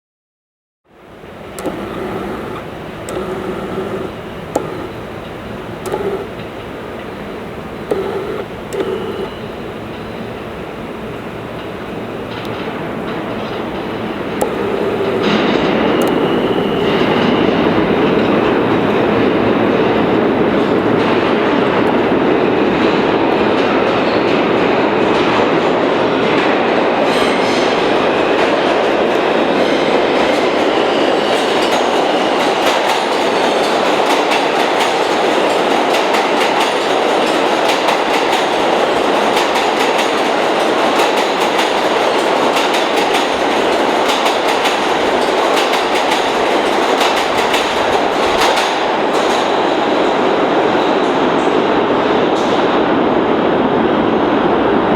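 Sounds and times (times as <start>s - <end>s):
subway train rumbling: 0.9s - 54.9s
wheels clacking over rail joints: 1.1s - 28.0s, 29.7s - 49.8s.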